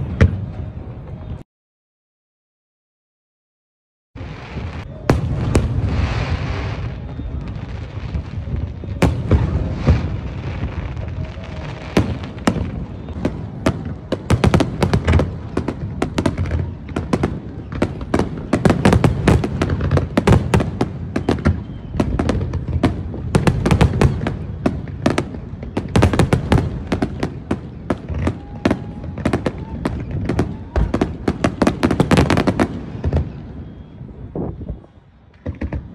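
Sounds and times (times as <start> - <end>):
fireworks bursts and crackling: 4.2 - 35.9.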